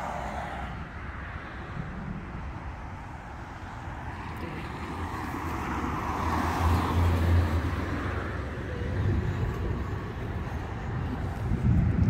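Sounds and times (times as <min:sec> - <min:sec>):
car passing by: 0:00.0 - 0:12.0.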